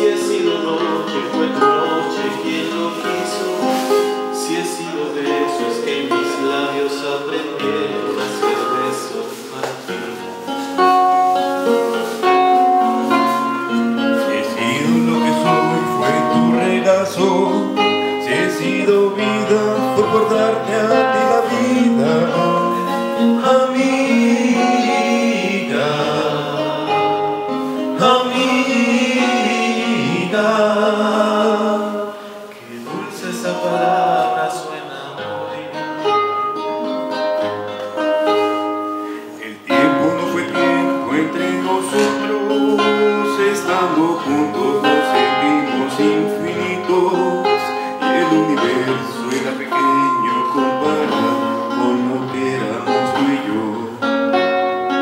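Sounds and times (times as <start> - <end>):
two men singing: 0.0 - 36.2, 39.1 - 55.0
acoustic guitar: 0.0 - 55.0.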